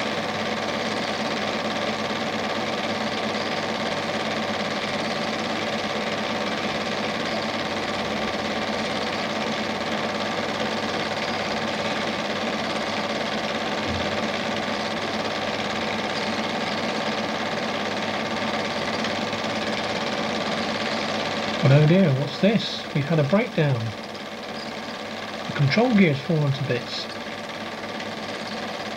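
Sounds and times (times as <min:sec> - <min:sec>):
film projector whirring: 0:00.0 - 0:28.9.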